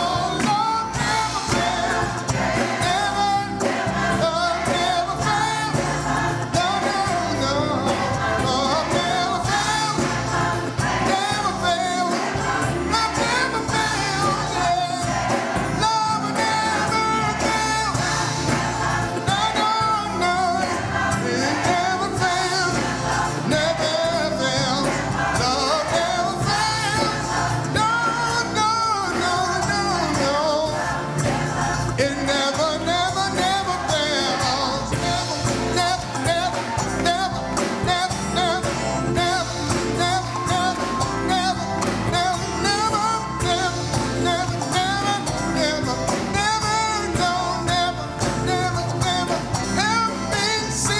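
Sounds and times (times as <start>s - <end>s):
gospel choir singing: 0.0s - 50.9s
instrumental accompaniment: 0.0s - 50.9s.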